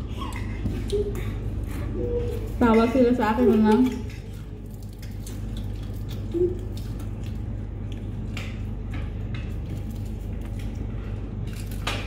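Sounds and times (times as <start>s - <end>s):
clicks taps and rustles of eating: 0.0s - 12.0s
low room hum: 0.0s - 12.0s.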